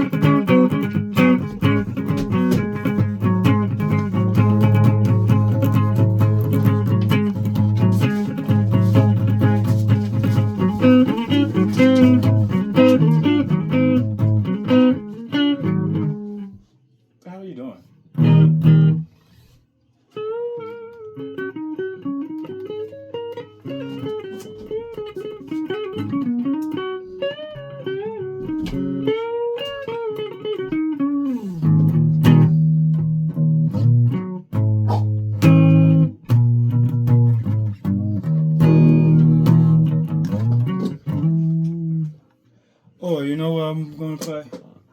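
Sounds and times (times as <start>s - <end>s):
solo guitar playing: 0.0s - 16.7s, 18.1s - 19.2s, 20.2s - 42.2s.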